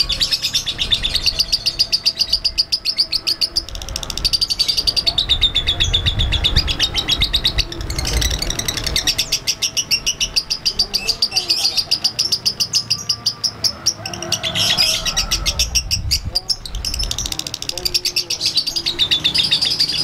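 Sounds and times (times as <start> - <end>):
lovebird chattering rapid chirps: 0.0 - 20.0.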